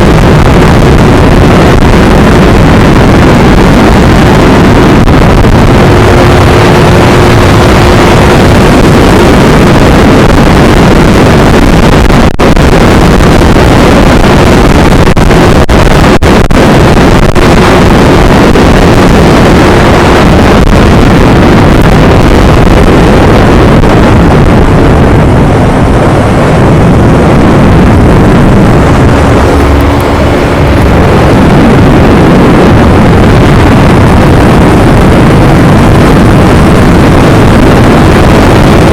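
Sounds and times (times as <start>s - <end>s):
motorcycle engine running: 0.0s - 10.0s, 17.5s - 38.9s
wind rushing over microphone: 0.0s - 38.9s.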